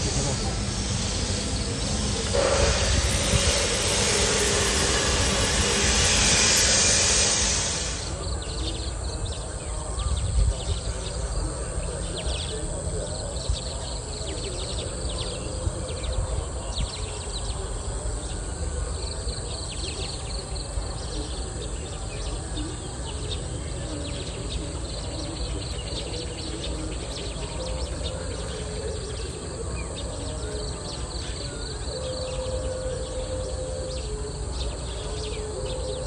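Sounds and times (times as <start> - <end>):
insect drone: 0.0 - 36.0.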